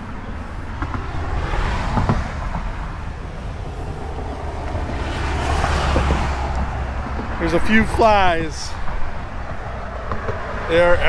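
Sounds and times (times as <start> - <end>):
low vehicle rumble: 0.0 - 11.0
wind buffeting microphone: 0.0 - 11.0.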